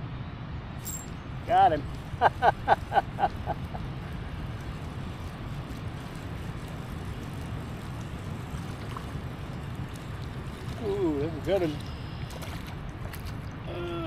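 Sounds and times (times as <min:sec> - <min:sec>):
wind buffeting microphone: 0:01.2 - 0:13.8.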